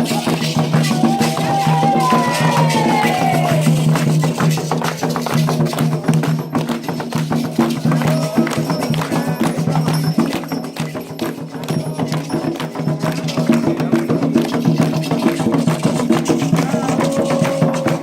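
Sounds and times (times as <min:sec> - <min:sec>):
rhythmic percussion strikes: 0:00.0 - 0:18.0.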